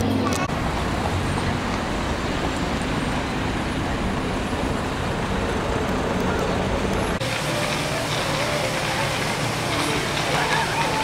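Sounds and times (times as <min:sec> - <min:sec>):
bus engine and road rumble: 0:00.0 - 0:11.0
traffic noise outside: 0:00.0 - 0:11.0.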